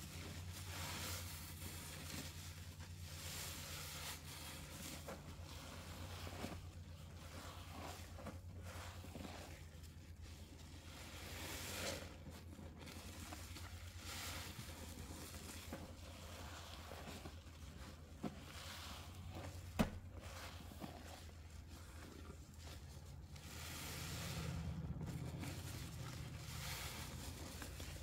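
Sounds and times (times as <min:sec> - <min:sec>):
low steady hum: 0:00.0 - 0:28.0
wet sponge squelching: 0:00.0 - 0:28.0.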